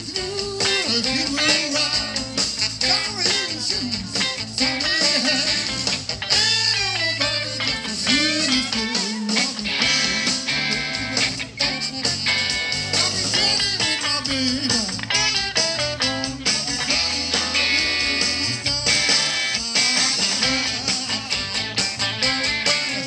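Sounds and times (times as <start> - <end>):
live blues band playing: 0.0 - 23.0.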